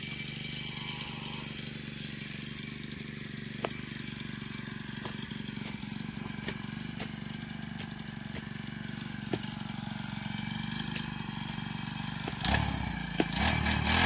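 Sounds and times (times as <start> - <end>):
brush cutter engine idling: 0.0 - 14.0.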